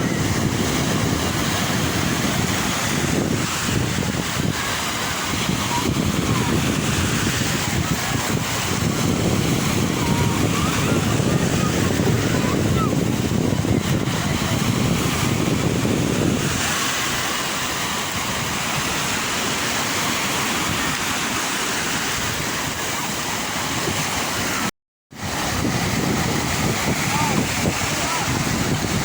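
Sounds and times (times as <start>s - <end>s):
sea waves breaking: 0.0s - 29.0s
wind rumbling on microphone: 0.0s - 29.0s.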